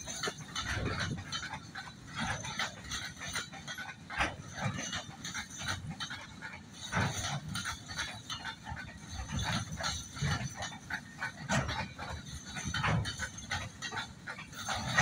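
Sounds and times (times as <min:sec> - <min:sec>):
train low rumble: 0:00.0 - 0:15.0
wagon wheels clicking and knocking: 0:00.0 - 0:15.0.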